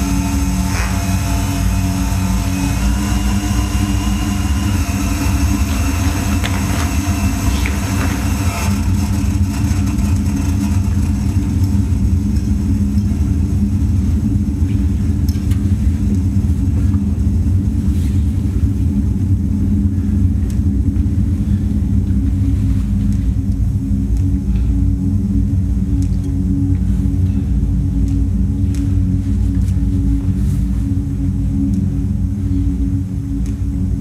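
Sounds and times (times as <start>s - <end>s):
loud low rumbling drone: 0.0s - 34.0s.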